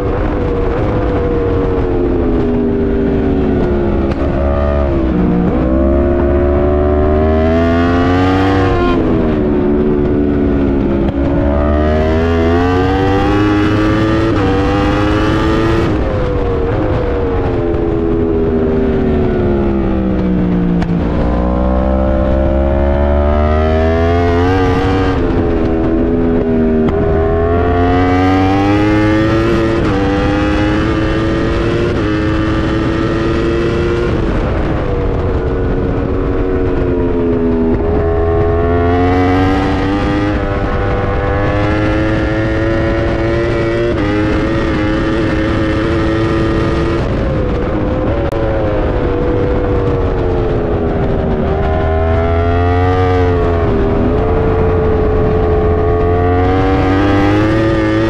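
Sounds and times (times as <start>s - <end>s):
motorcycle engine at racing speed: 0.0s - 58.0s
wind rushing over microphone: 0.0s - 58.0s.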